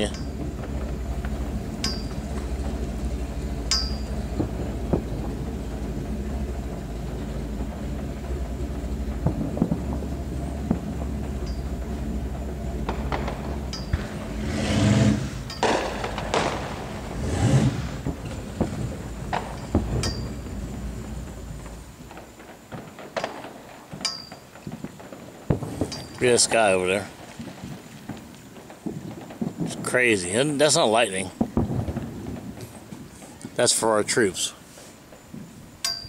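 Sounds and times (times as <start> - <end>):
rumbling firework bursts: 0.0 - 35.8
distant fireworks cracking: 0.0 - 36.0
low mechanical hum: 0.0 - 36.0.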